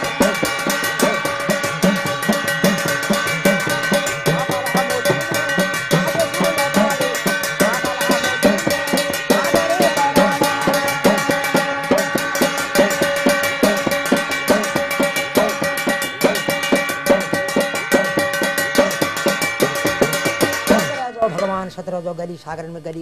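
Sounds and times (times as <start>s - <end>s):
hand drum beaten fast: 0.0s - 21.1s
metallic ringing: 0.0s - 22.4s.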